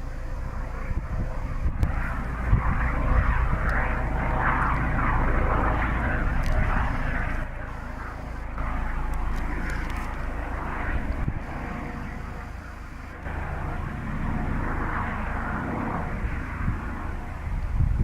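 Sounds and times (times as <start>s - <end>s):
helicopter rotor and turbine: 0.0s - 18.0s.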